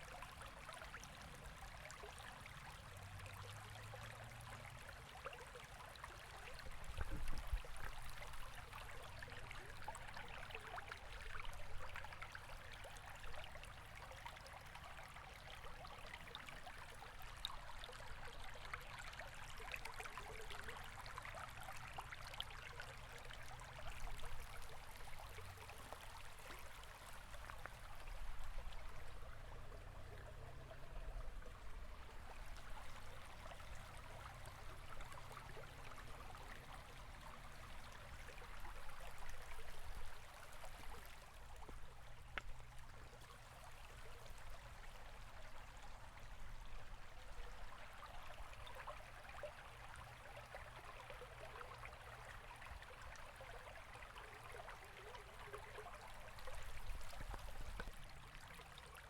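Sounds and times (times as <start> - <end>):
river water babbling over stones: 0.0 - 59.0.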